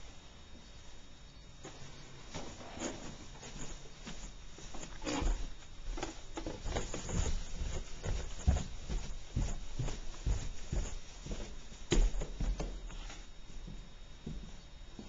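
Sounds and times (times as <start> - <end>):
footsteps on carpeted stairs: 1.6 - 15.0.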